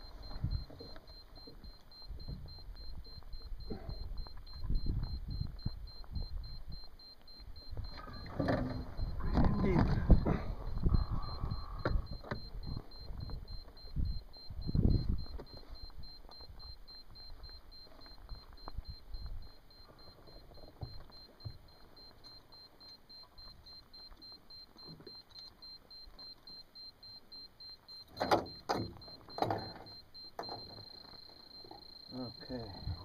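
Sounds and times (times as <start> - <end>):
high-pitched pulsing beep: 0.0 - 33.0.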